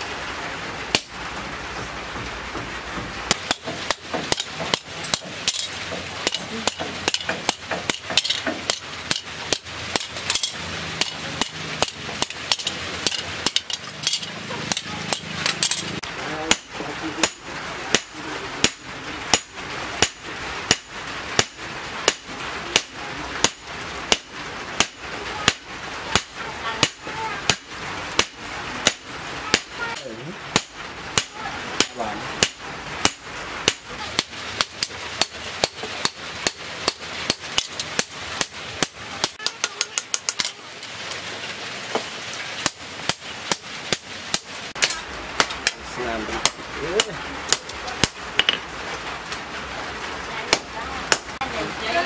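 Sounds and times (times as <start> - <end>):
hammer striking chisel on steel: 0.9 - 1.2, 2.2 - 40.6, 42.6 - 45.8, 46.4 - 48.6, 50.5 - 51.4.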